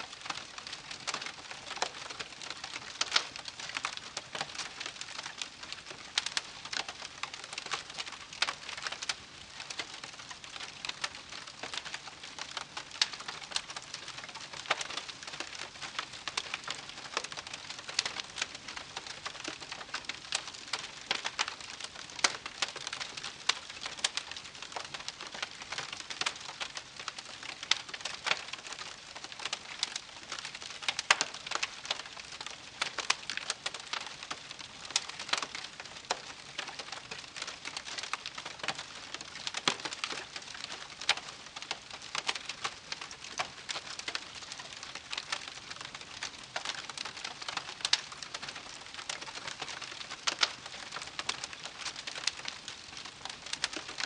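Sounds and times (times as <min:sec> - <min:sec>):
campfire crackling: 0:00.1 - 0:54.0.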